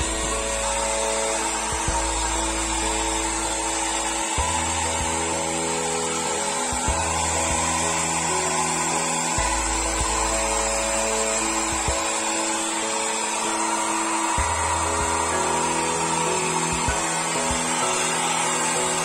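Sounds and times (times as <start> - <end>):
background music of held notes: 0.0 - 19.0
hair dryer blowing: 0.0 - 19.0.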